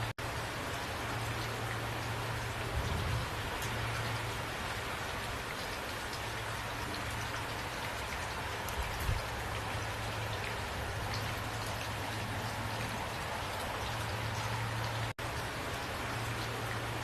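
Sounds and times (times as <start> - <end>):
rain drops ticking: 0.0 - 17.0
rain hiss: 0.0 - 17.0.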